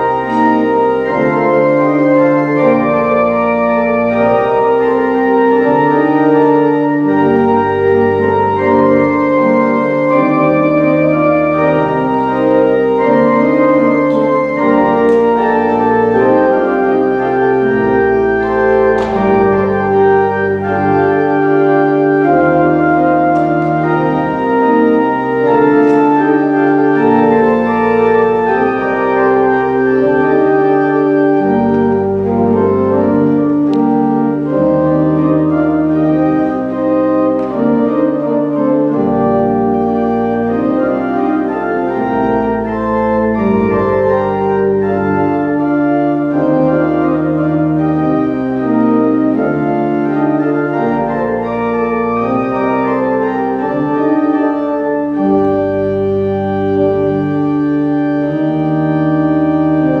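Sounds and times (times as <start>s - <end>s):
church organ playing chords: 0.0s - 60.0s.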